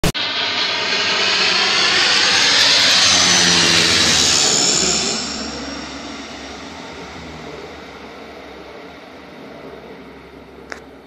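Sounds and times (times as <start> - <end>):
turboprop plane passing overhead: 0.1 - 11.0.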